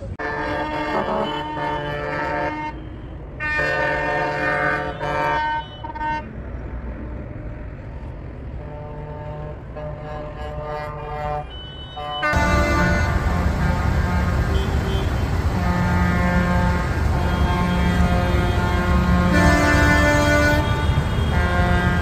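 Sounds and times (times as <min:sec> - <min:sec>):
vehicle air horns honking: 0:00.2 - 0:06.3, 0:08.6 - 0:22.0.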